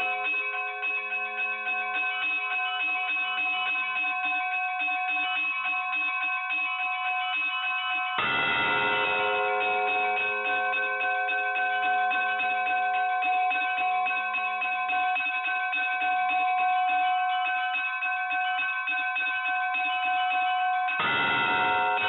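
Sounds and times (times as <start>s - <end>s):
bells ringing in a peal: 0.0s - 22.0s.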